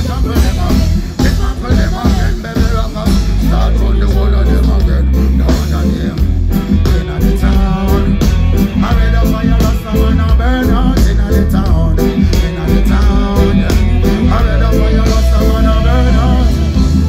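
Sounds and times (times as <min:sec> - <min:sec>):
heavy bass line: 0:00.0 - 0:17.0
live reggae band playing: 0:00.0 - 0:17.0
steady drum beat: 0:00.0 - 0:17.0.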